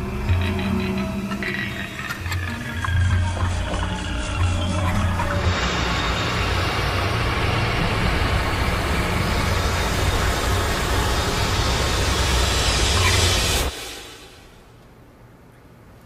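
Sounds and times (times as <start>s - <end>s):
loud rumbling drone: 0.0s - 14.7s
low hum: 0.0s - 15.5s.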